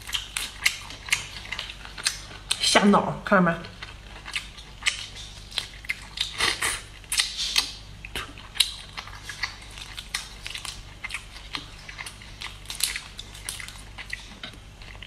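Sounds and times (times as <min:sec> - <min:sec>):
chewing: 0:00.0 - 0:02.7, 0:03.6 - 0:15.0.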